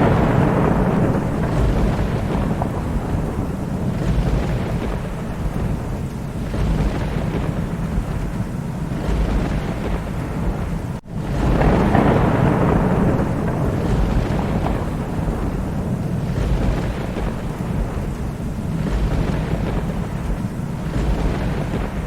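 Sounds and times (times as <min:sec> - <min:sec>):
heavy rain: 0:00.0 - 0:22.0
rolling thunder: 0:00.0 - 0:22.0.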